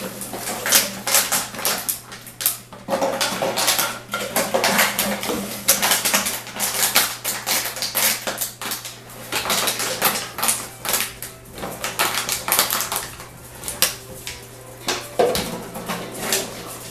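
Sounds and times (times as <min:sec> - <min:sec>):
plastic bottles clattering: 0:00.0 - 0:16.9.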